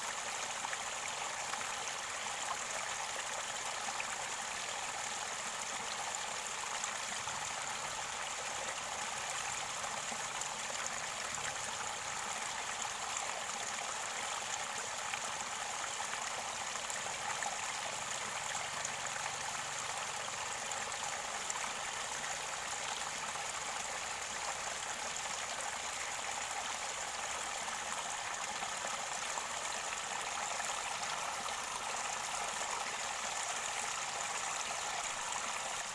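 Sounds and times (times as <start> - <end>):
stream water running over rocks: 0.0 - 35.9.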